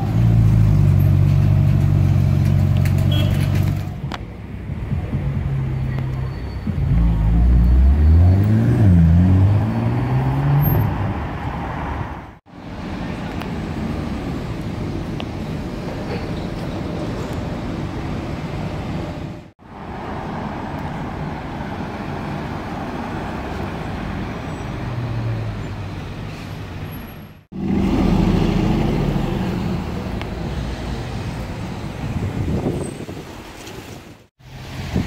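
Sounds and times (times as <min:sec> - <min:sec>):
car engines and road noise: 0:00.0 - 0:35.0.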